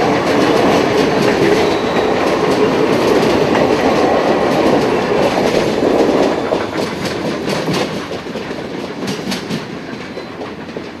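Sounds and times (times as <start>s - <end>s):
train wheels clicking over rail joints: 0.0s - 11.0s.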